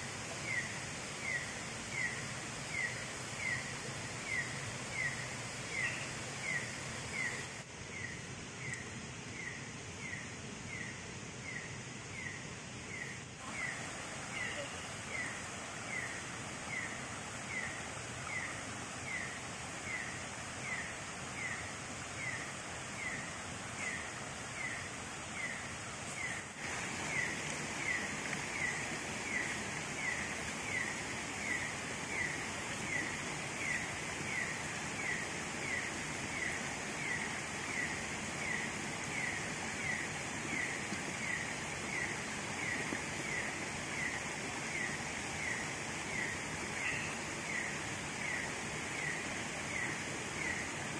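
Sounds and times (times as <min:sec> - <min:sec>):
steady jungle hiss: 0:00.0 - 0:50.9.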